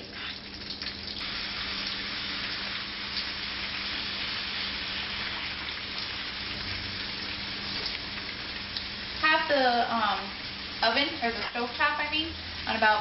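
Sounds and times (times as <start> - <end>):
steaks sizzling in a skillet: 1.2 - 12.9.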